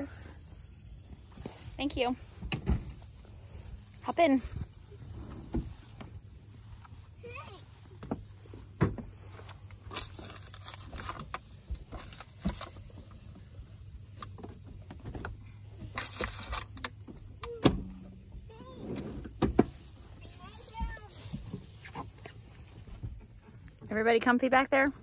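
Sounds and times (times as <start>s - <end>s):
rustling of children climbing: 0.0s - 24.5s.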